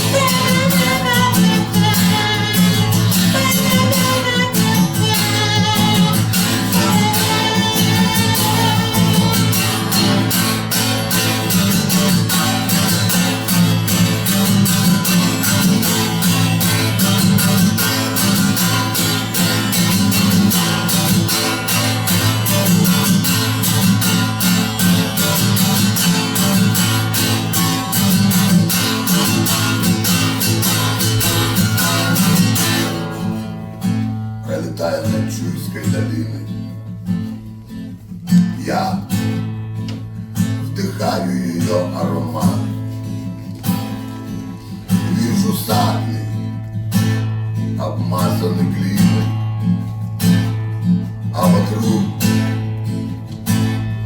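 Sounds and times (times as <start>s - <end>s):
guitar strumming: 0.0s - 54.0s.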